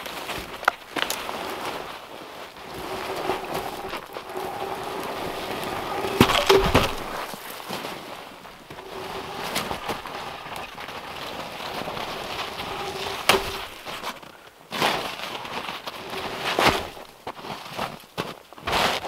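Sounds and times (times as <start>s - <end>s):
footsteps crunching in snow: 0.0s - 19.0s
heavy log scraping and knocking: 0.0s - 19.0s.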